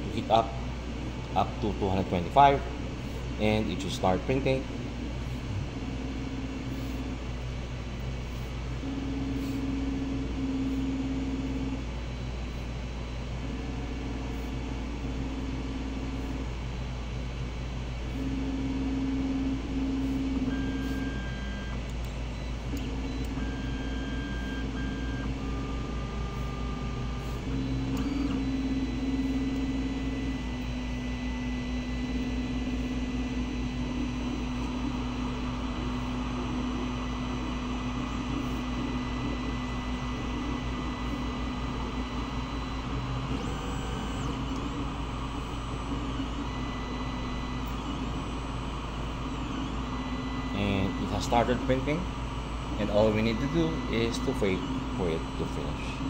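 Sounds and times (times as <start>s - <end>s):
printer fans humming: 0.0s - 56.0s
stepper motor tones: 0.0s - 56.0s.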